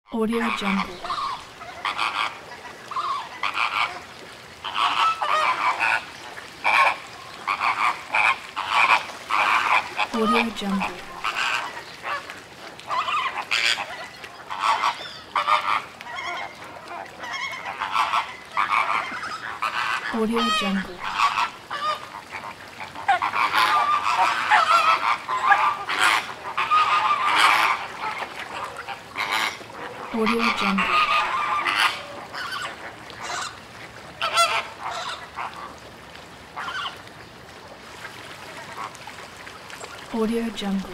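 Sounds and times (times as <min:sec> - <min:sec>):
flamingos honking: 0:00.3 - 0:35.9, 0:36.5 - 0:37.0
splashing and wing-flapping: 0:00.3 - 0:40.9.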